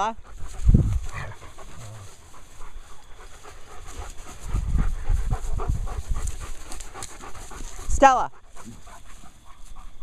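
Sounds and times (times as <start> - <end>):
dogs panting: 0.0 - 10.0.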